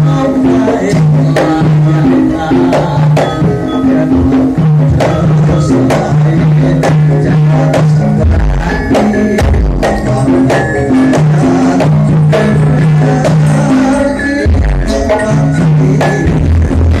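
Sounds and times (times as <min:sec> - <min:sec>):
drum strikes: 0:00.0 - 0:17.0
pitched melody notes: 0:00.0 - 0:17.0.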